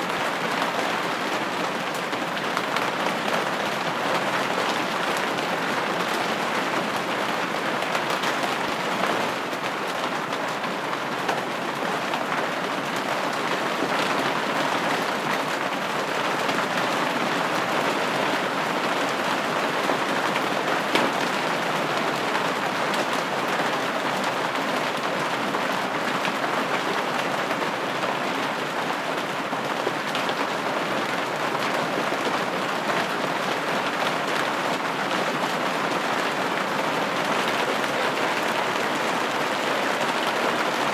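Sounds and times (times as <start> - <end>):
rain pattering on window: 0.0 - 40.9.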